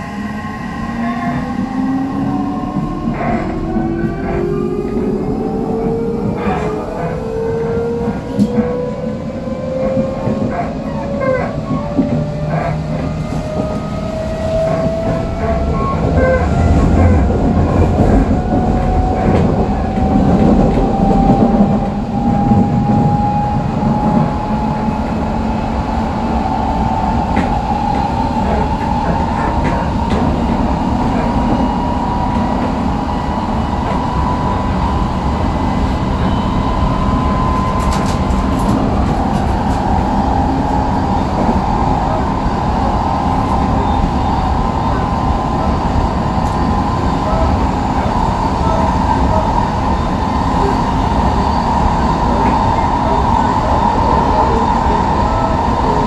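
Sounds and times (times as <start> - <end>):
wheels clacking on rails: 0.0 - 56.0.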